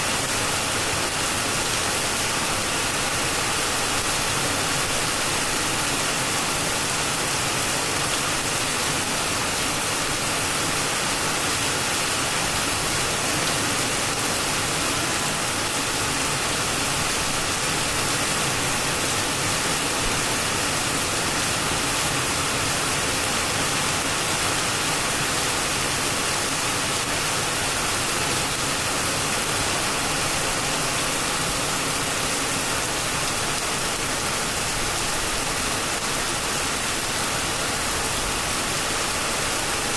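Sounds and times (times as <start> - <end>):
heavy rain on trees and roof: 0.0 - 39.9.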